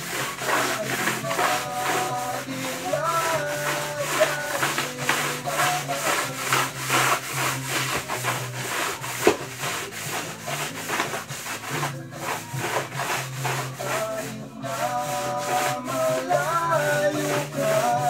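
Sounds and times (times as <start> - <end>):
floor polisher scrubbing floor: 0.0 - 18.0.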